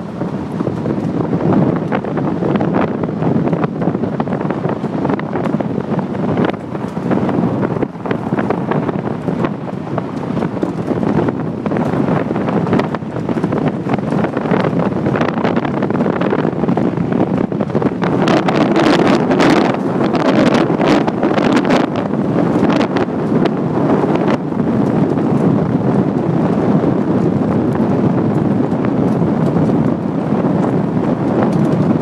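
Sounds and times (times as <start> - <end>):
tyres rolling on gravel road: 0.0 - 32.0
wind buffeting microphone: 0.0 - 32.0.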